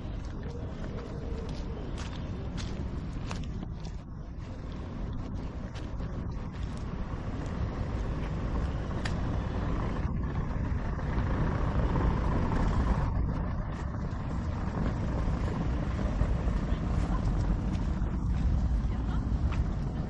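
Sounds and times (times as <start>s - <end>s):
city road traffic rumble: 0.0s - 20.0s.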